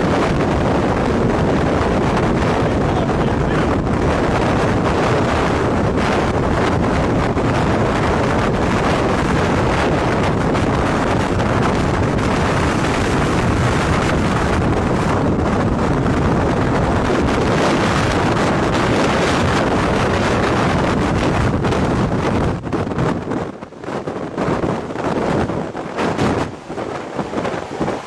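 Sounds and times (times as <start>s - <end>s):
strong wind on microphone: 0.0s - 28.0s.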